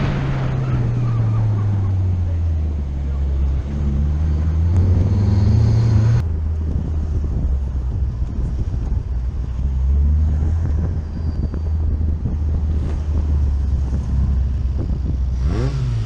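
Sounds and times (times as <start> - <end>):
car engine low rumble: 0.0 - 16.0.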